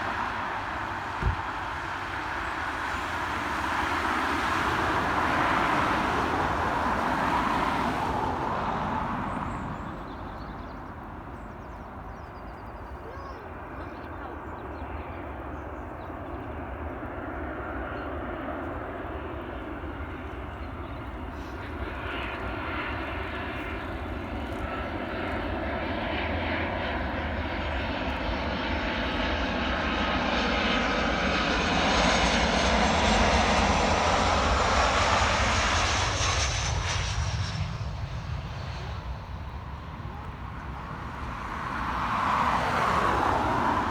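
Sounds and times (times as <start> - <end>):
aircraft engines: 0.0 - 43.9.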